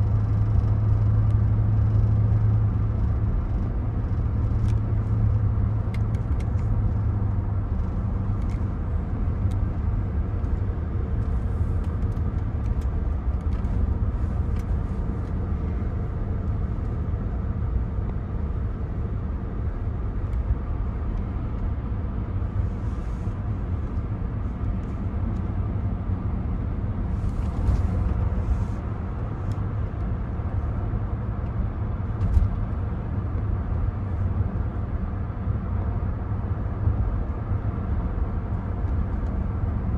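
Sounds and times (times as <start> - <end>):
car engine running: 0.0 - 33.0
road and tyre noise: 0.0 - 39.9.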